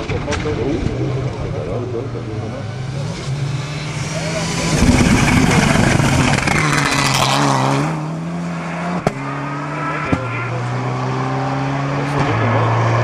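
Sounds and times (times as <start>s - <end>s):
rally car passing at speed: 0.0s - 13.0s.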